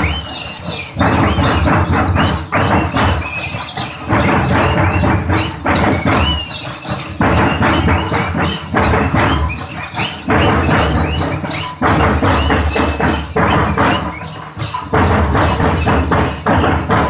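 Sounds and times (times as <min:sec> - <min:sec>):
loud fast drumming: 0:00.0 - 0:17.0.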